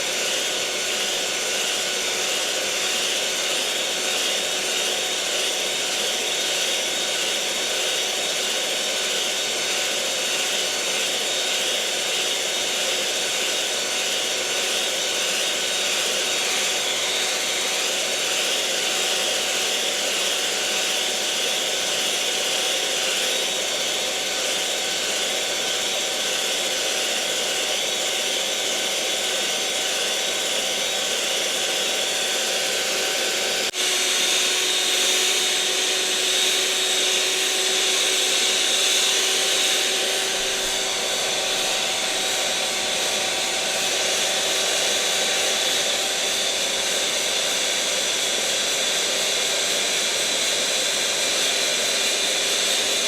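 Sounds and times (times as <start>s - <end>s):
electric mixer motor whirring: 0.0s - 53.0s.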